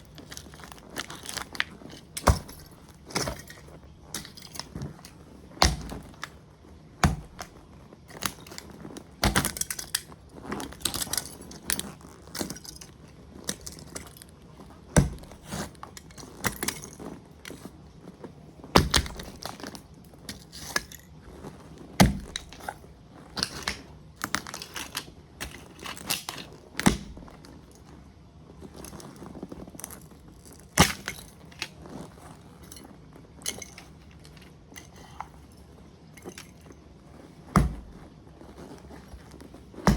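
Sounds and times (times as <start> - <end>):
plastic toy cracking underfoot: 0.0 - 27.9, 28.7 - 35.4, 37.5 - 39.9
light crunching and crackling: 0.0 - 39.9.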